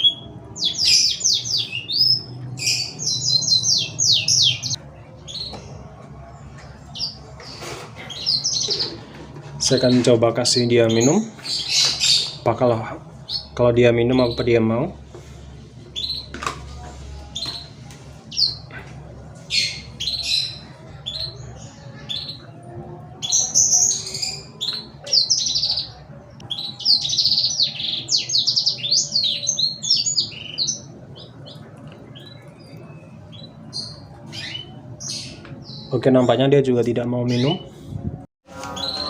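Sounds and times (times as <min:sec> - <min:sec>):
small birds chirping: 0:00.0 - 0:37.8, 0:38.6 - 0:39.0.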